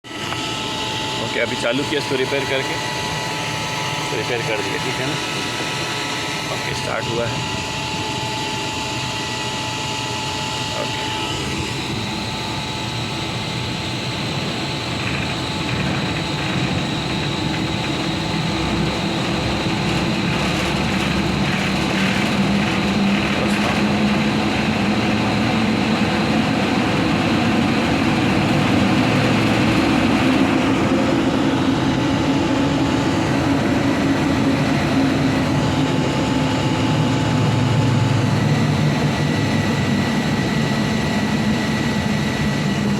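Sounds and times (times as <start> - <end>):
high whine: 0.0 - 42.9
machinery low hum: 0.1 - 42.9.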